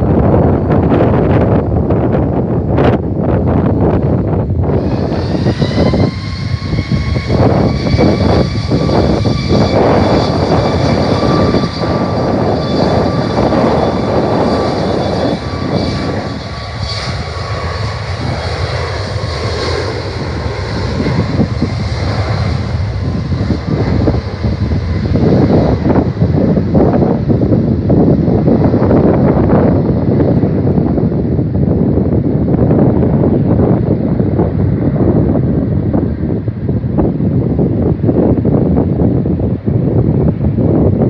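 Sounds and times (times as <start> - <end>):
jet engines whining: 0.0 - 41.0
wind buffeting microphone: 0.0 - 41.0.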